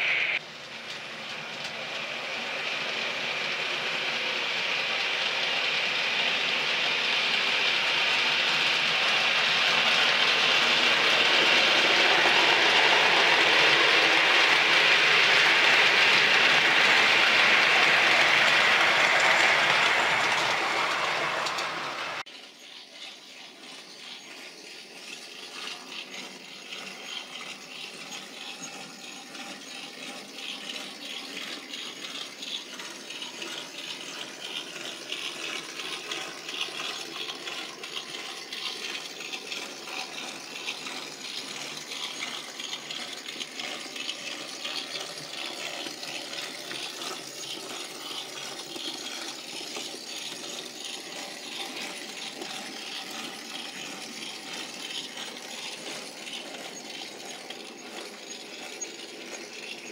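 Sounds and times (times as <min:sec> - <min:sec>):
model train motor whirring: 0:00.0 - 0:59.9
model train wheels rattling: 0:00.0 - 0:59.9.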